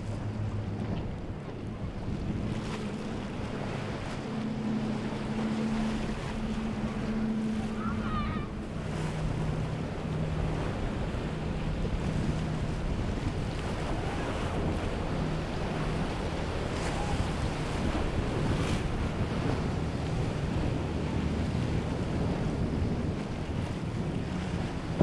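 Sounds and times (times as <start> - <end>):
powerboat engines droning: 0.0 - 25.0
wind on microphone: 0.0 - 25.0.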